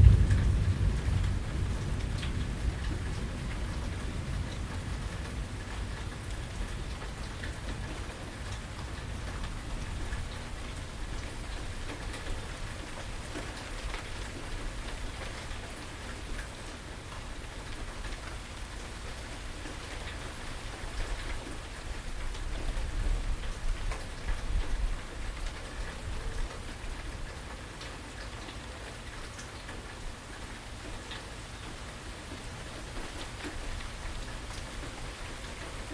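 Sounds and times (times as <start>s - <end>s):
close raindrops striking: 0.0s - 35.9s
steady rain falling: 0.0s - 35.9s.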